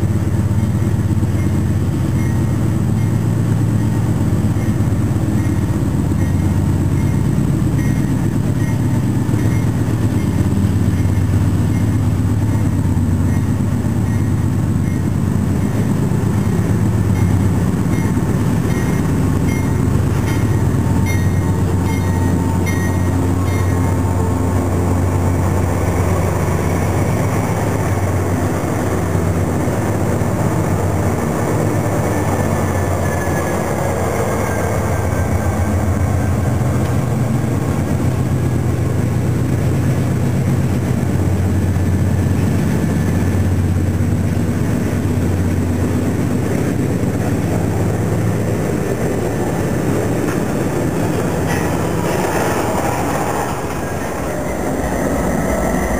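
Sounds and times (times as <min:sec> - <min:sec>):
locomotive rumbling past: 0:00.0 - 0:55.9
steel wheels rumbling on rails: 0:00.0 - 0:55.9
train clicks: 0:00.0 - 0:55.9.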